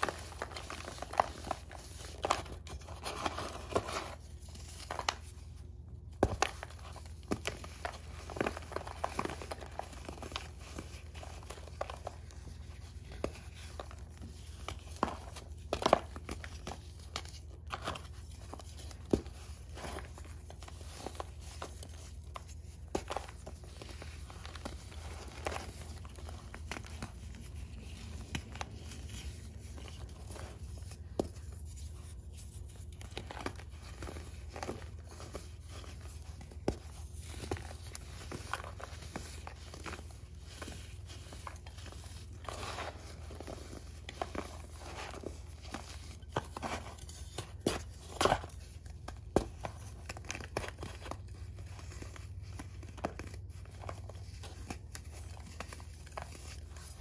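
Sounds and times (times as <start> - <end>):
chalk crumbling and crunching: 0.0 - 57.0.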